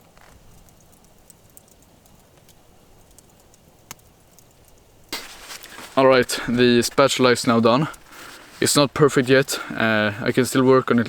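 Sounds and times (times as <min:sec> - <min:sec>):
faint campfire crackling: 0:00.0 - 0:11.0.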